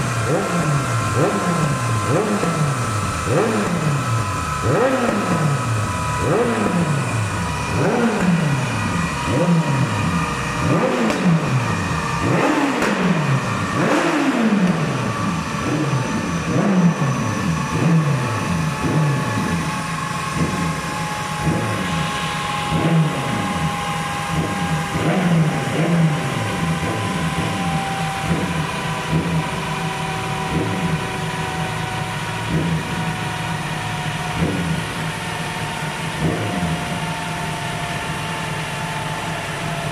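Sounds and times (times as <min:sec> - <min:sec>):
dyno roller whine: 0:00.0 - 0:39.9
motorcycle engine revving: 0:00.0 - 0:39.9.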